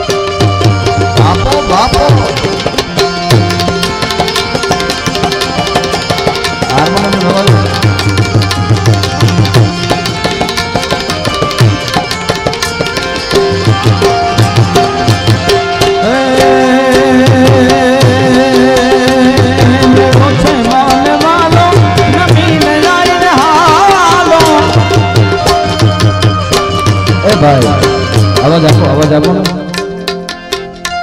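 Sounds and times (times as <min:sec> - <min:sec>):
melody instrument holding notes: 0:00.0 - 0:31.0
tabla playing quick rhythm: 0:00.0 - 0:31.0.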